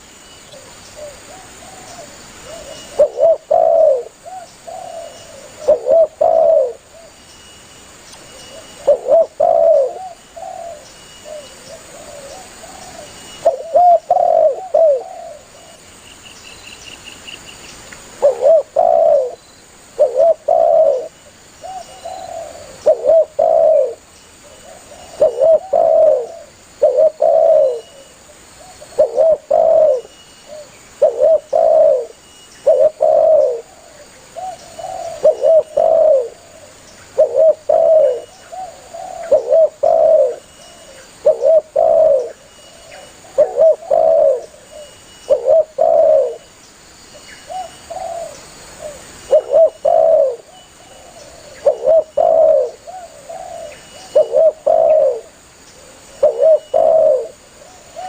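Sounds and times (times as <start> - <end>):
dove cooing: 0.5 - 7.2, 8.4 - 15.8, 18.2 - 46.4, 47.4 - 58.0.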